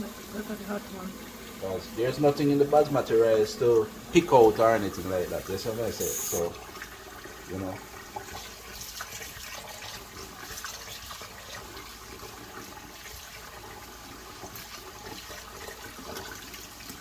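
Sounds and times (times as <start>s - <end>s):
tap water running into pot: 0.0s - 17.0s.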